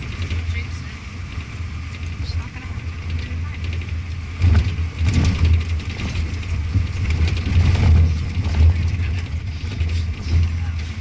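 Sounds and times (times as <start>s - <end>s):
knocks and rattles: 0.0s - 11.0s
vehicle engine and road rumble: 0.0s - 11.0s.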